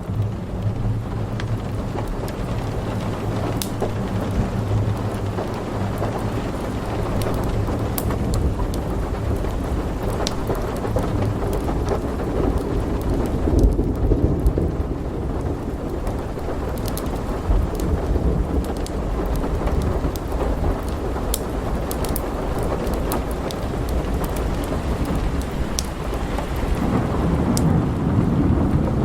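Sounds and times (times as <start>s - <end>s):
sharp crackles and ticks: 0.0s - 27.7s
deep rumbling thunder: 0.0s - 29.0s
heavy rain: 0.0s - 29.0s.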